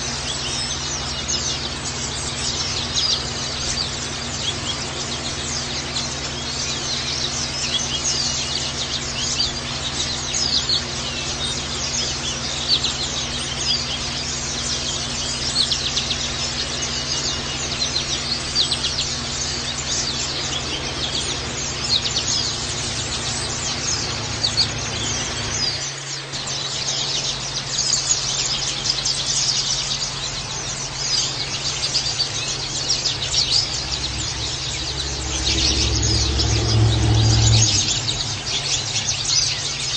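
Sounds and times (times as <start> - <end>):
birds twittering in high chirps: 0.0 - 39.9.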